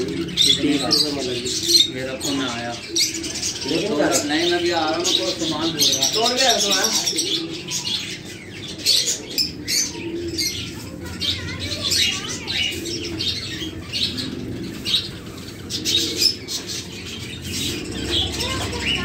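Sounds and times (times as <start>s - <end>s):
budgerigars chirping: 0.0s - 19.0s.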